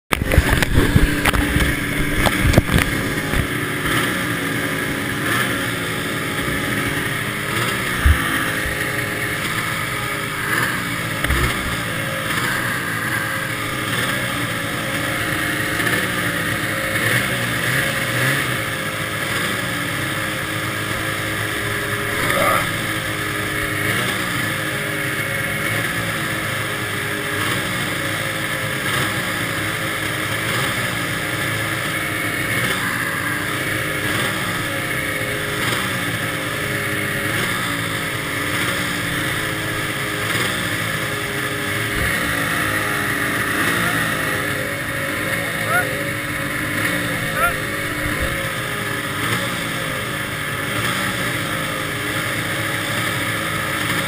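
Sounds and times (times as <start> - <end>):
snowmobile engines revving: 0.1 - 54.0.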